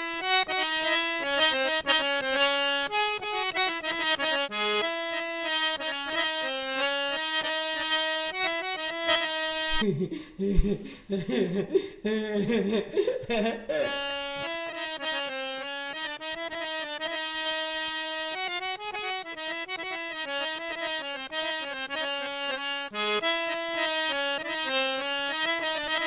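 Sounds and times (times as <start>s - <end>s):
instrumental background music: 0.0s - 9.8s, 13.8s - 26.0s.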